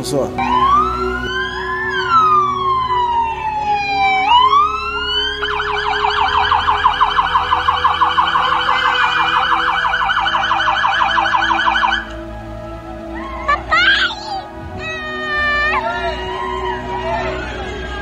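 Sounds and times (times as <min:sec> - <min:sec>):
police siren wailing and yelping: 0:00.4 - 0:18.0.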